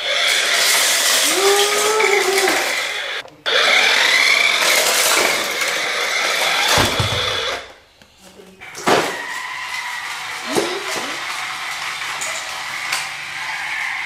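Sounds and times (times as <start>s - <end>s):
toy car motor whining: 0.0s - 7.8s, 8.6s - 14.0s
wheels on tile floor: 0.0s - 14.0s.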